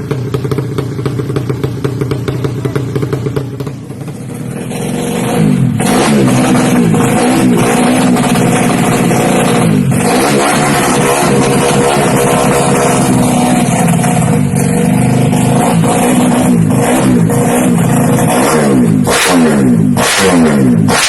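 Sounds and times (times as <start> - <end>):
motorcycle engine revving loudly: 0.0 - 21.0.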